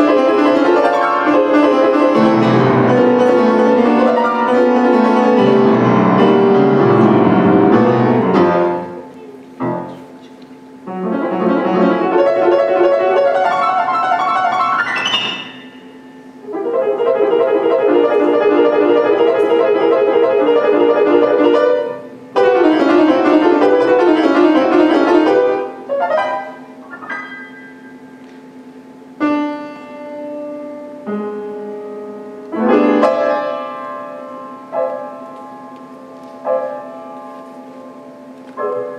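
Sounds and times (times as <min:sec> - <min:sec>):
solo grand piano: 0:00.0 - 0:38.9.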